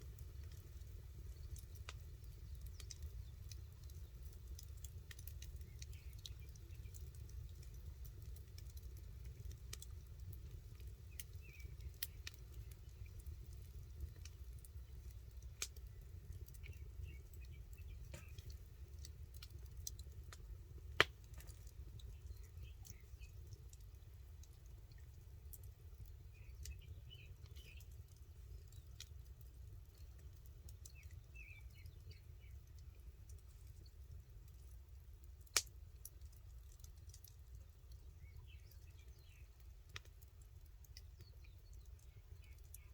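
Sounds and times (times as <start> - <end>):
campfire wood crackling: 0.0 - 42.9.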